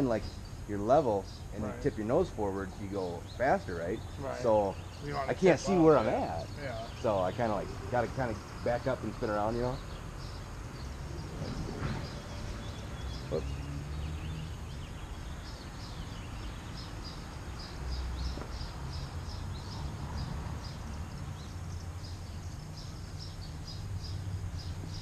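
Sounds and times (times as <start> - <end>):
small bird chirping: 0.0 - 25.0.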